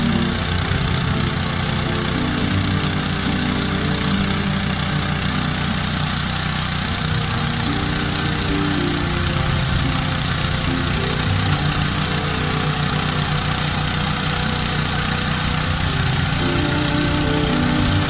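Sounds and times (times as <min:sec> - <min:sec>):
tiller engine running: 0:00.0 - 0:18.0.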